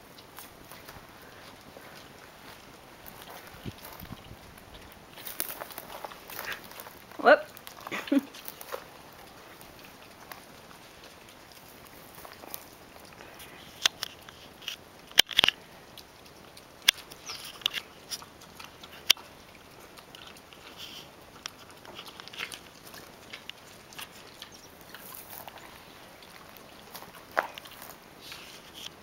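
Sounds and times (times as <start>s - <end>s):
pig chewing: 0.0s - 29.0s.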